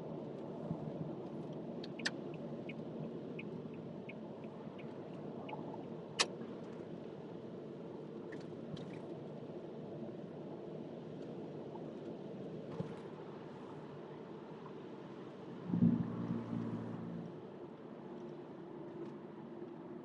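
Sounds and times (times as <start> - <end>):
road and tyre noise in car: 0.0 - 20.0.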